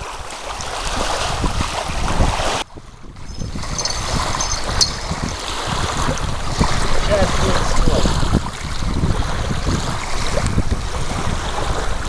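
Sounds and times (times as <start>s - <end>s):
water lapping at shore: 0.0s - 12.0s
wind buffeting microphone: 0.0s - 12.0s.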